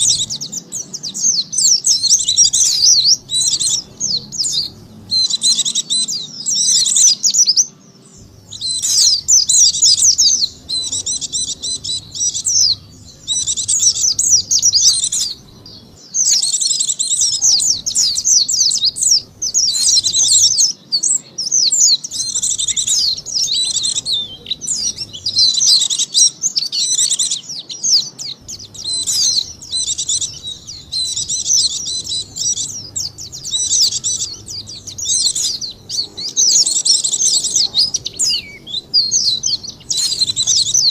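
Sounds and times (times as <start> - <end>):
bird high twittering song: 0.0 - 40.9.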